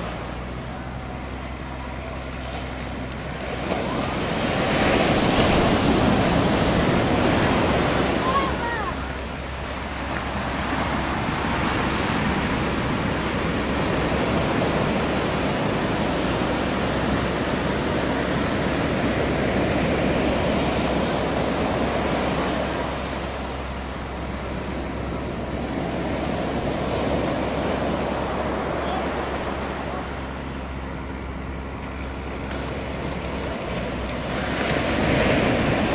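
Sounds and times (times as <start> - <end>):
waves washing up beach: 0.0 - 35.9.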